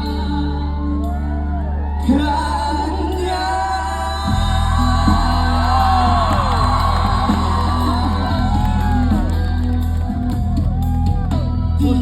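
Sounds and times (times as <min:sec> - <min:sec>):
live band playing: 0:00.0 - 0:12.0
person singing: 0:00.0 - 0:12.0
crowd shouts and whoops: 0:00.8 - 0:11.7.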